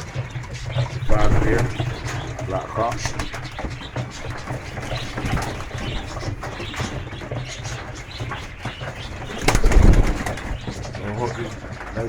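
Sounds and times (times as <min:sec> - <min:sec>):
pigeons rustling and scratching: 0:00.0 - 0:12.0
wing flaps: 0:00.0 - 0:12.0.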